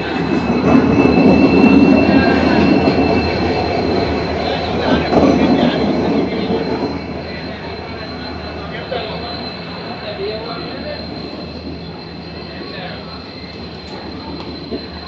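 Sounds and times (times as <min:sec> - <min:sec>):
high-pitched wheel squeal: 0:00.0 - 0:15.0
train rumbling past: 0:00.0 - 0:15.0.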